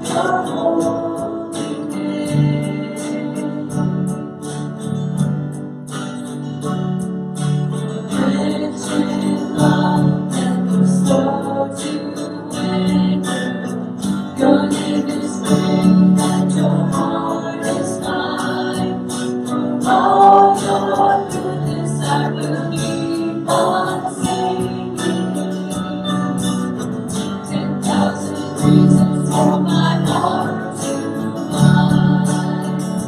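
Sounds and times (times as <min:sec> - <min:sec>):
voices singing: 0:00.0 - 0:04.1, 0:08.1 - 0:33.0
strummed acoustic guitar: 0:00.0 - 0:33.0.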